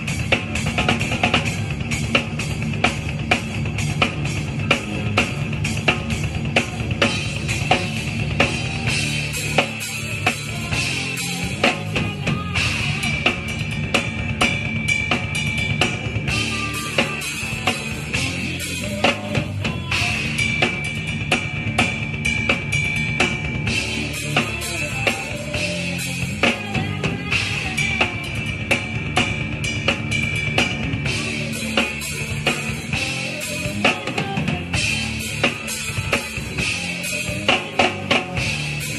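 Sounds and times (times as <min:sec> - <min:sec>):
drum kit beat: 0:00.0 - 0:38.9
live band playing: 0:00.0 - 0:38.9.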